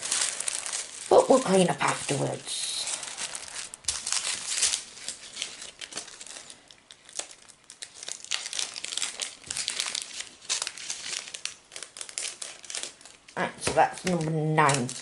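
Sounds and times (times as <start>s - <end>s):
foil and plastic bags crinkling: 0.0s - 15.0s.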